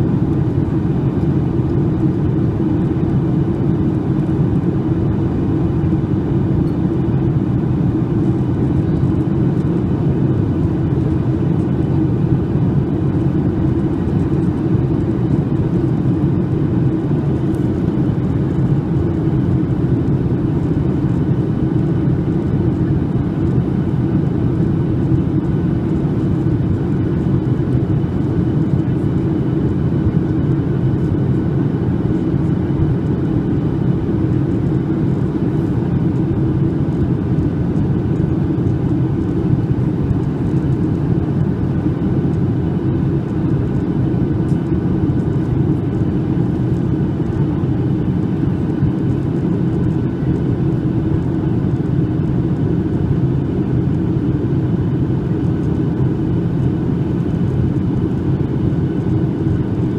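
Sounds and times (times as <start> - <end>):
aircraft cabin jet engine rumble: 0.0 - 59.9
faint steady whining tones: 0.0 - 59.9.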